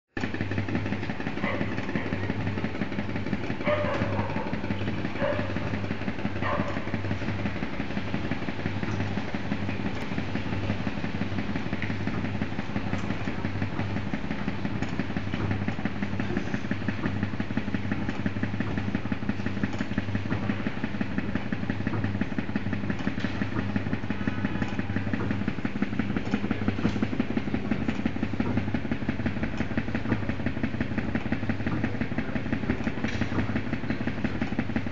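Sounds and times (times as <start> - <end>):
bulldozer engine running: 0.2 - 34.9.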